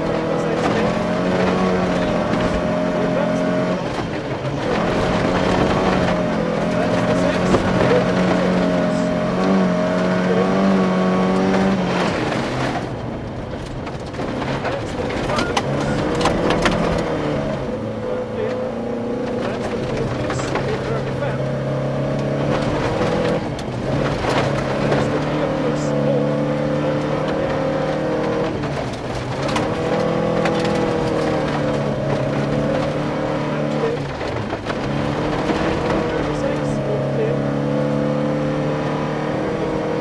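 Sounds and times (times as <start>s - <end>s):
car engine pulling hard: 0.0s - 40.0s.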